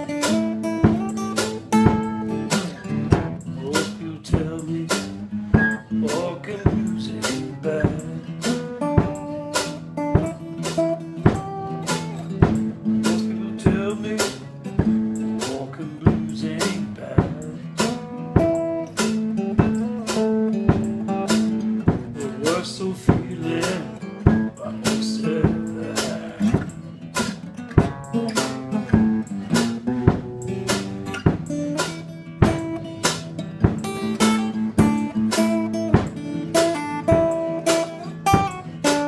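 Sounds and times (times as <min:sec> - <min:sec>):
acoustic guitar strumming blues: 0:00.0 - 0:39.0.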